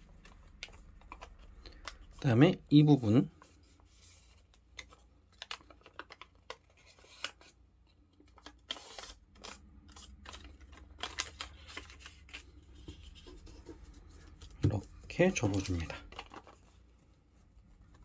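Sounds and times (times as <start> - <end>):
paper being folded and creased: 0.0 - 2.3, 3.0 - 18.0.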